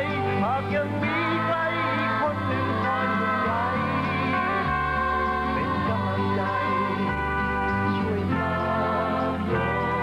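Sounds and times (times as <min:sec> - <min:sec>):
instrumental music with sustained chords: 0:00.0 - 0:10.0.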